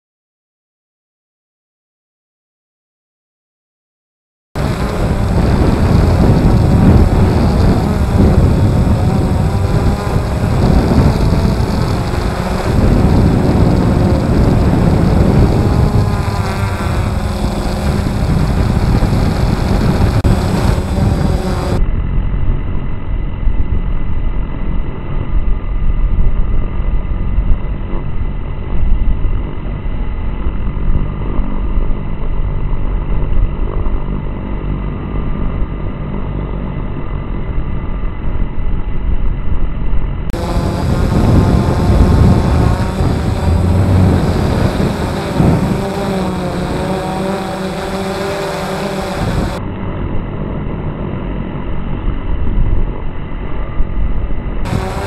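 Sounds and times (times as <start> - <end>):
drone propellers buzzing: 4.6 - 38.2, 40.3 - 55.0.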